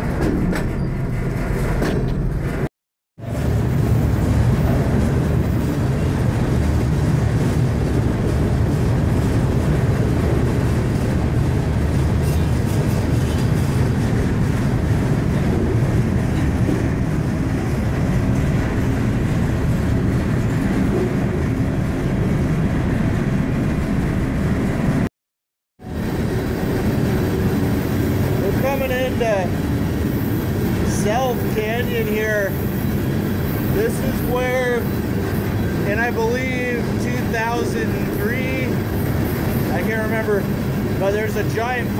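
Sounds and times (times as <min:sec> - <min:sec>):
freight train rumbling: 0:00.0 - 0:25.1, 0:25.8 - 0:41.9.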